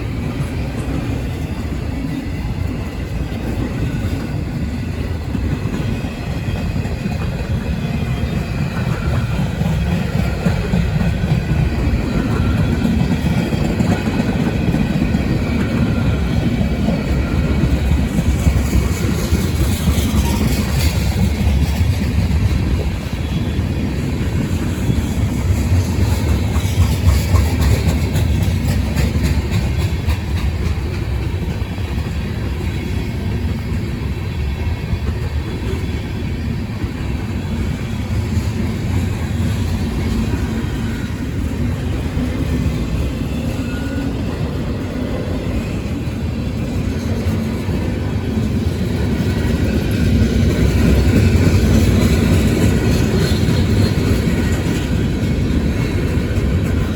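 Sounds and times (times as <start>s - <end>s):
freight train wheels rumbling: 0.0s - 56.9s.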